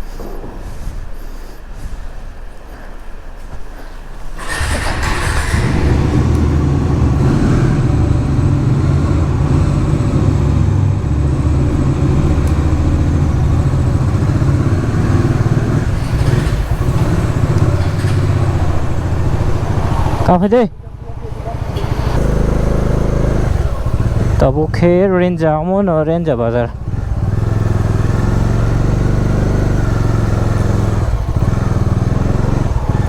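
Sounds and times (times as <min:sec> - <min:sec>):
motorcycle engine running: 0:04.4 - 0:33.0.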